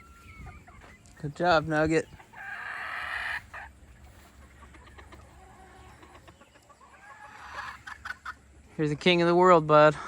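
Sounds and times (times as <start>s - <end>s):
chickens clucking softly: 0.0s - 10.0s.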